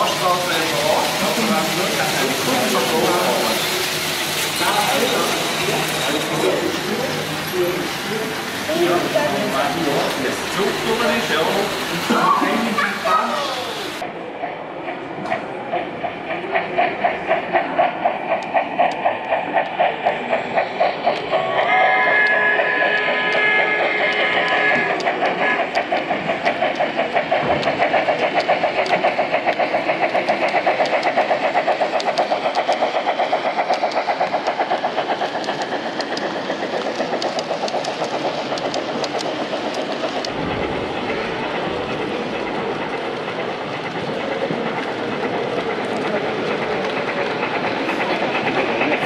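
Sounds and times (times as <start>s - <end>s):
model locomotive steam chuffing: 0.0s - 49.0s.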